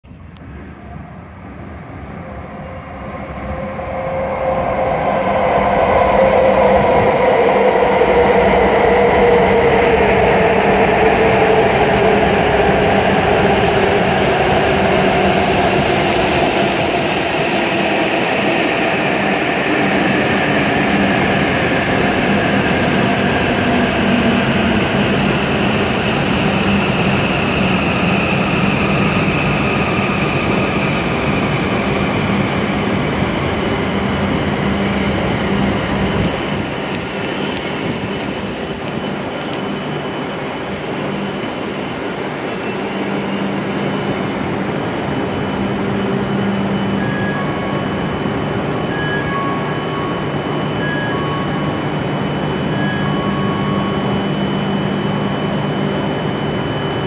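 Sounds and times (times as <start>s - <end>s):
train rumble: 0.0s - 57.0s
falling whine of braking train: 0.1s - 57.0s.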